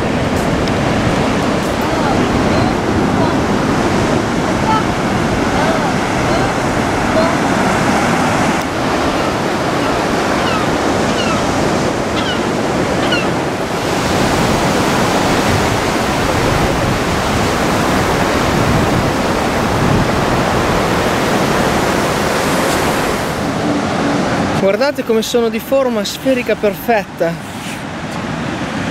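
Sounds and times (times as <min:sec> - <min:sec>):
wind on microphone: 0:00.0 - 0:24.6
ocean surf on beach: 0:00.0 - 0:28.9.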